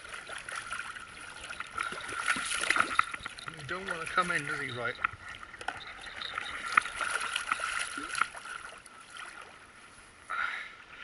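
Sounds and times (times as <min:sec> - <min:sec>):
water splashing against kayak: 0:00.0 - 0:10.1.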